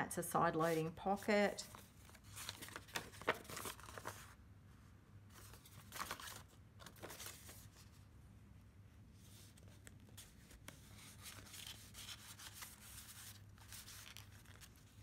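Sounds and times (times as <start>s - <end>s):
paper pages rustling: 0.6s - 4.4s, 5.3s - 8.1s, 9.2s - 15.0s.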